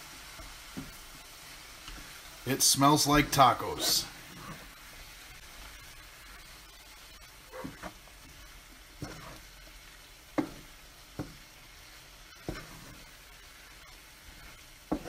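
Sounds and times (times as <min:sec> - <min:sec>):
low steady sizzle: 0:00.0 - 0:15.0
wooden spatula scraping a pan: 0:00.1 - 0:02.4, 0:03.0 - 0:06.4, 0:07.2 - 0:15.0.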